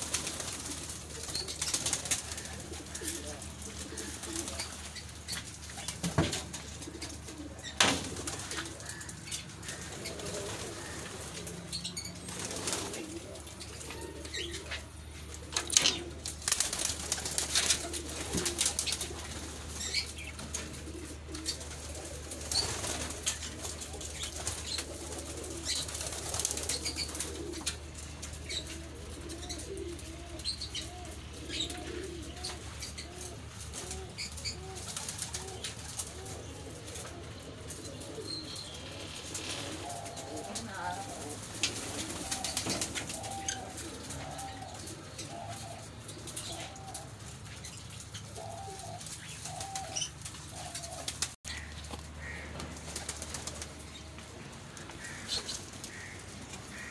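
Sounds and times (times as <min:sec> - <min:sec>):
pigeons cooing: 0:00.0 - 0:56.9
wings flapping: 0:00.0 - 0:56.9.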